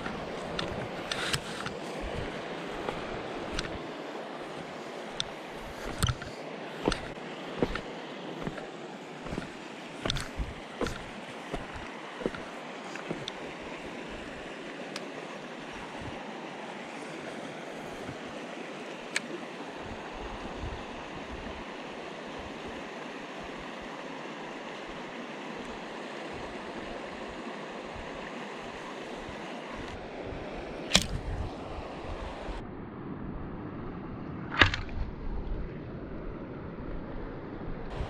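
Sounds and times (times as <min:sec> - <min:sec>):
water rushing: 0:00.0 - 0:32.6
wind: 0:00.0 - 0:38.0.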